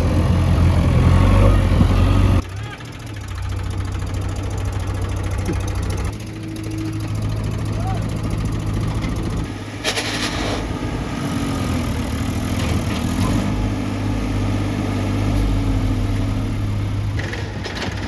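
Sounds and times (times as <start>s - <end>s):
diesel machinery engine running: 0.0s - 18.0s.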